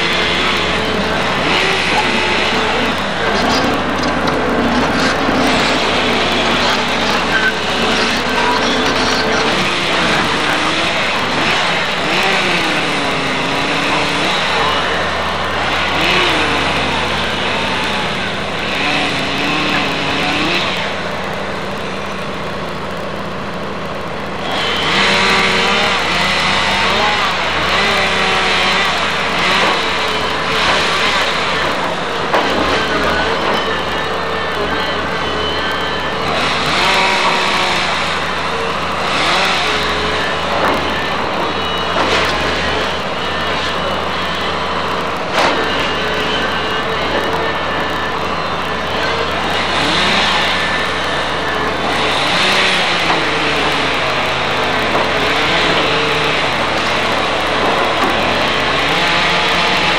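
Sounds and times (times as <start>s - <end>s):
excavator diesel engine: 0.0s - 59.9s
timber cracking and splintering: 0.0s - 59.9s.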